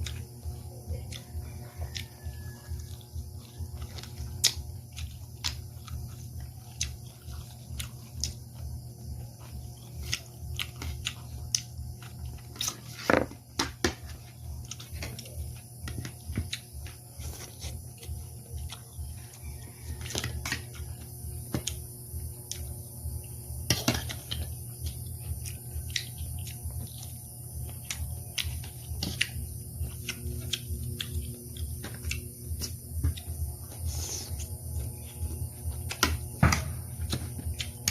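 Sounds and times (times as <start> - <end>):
chewing: 0.0 - 13.0, 14.0 - 36.4, 37.0 - 37.9
steady low hum: 0.0 - 37.9.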